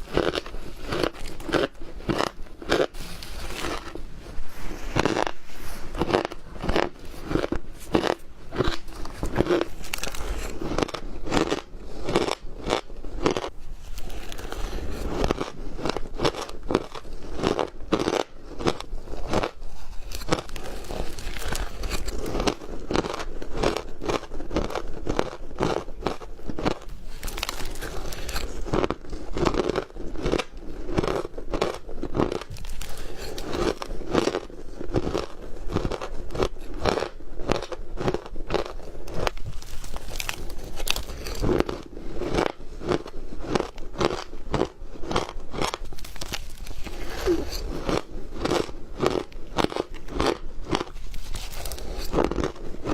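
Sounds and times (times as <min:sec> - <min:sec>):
ice being chewed: 0:00.0 - 0:52.9.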